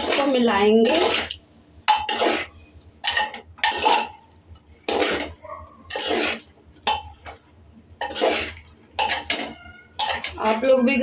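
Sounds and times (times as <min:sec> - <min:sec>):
spoon scraping metal pot: 0:00.0 - 0:07.2, 0:08.0 - 0:11.0.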